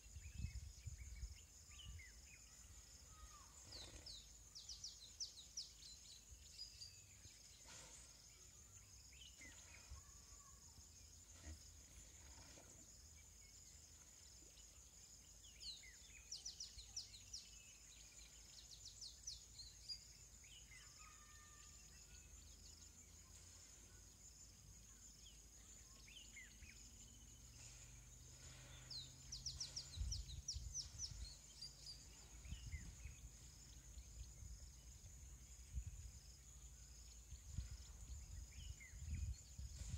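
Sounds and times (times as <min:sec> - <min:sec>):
faint birdsong chirps: 0:00.0 - 0:39.9.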